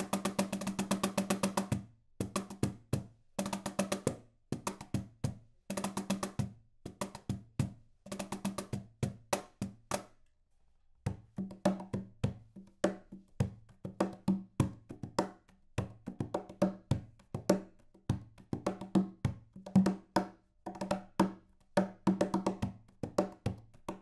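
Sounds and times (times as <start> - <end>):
cajon finger taps and slaps: 0.0 - 10.2, 11.1 - 24.0.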